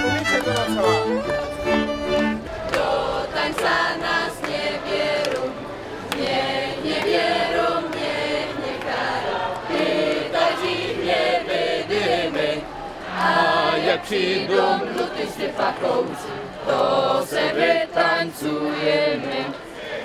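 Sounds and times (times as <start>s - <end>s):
group singing folk song in chorus: 1.2s - 20.0s.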